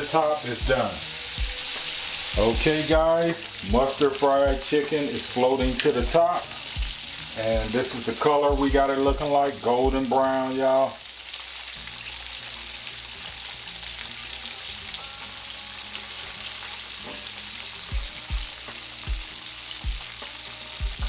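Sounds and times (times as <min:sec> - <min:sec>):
chicken wings deep-frying sizzle: 0:00.0 - 0:21.0.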